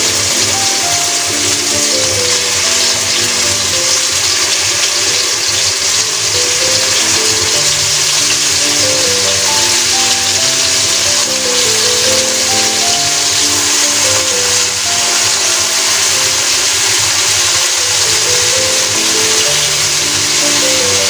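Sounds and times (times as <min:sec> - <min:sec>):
chicken sizzling in hot oil: 0:00.0 - 0:21.0
simple background music melody: 0:00.0 - 0:21.0.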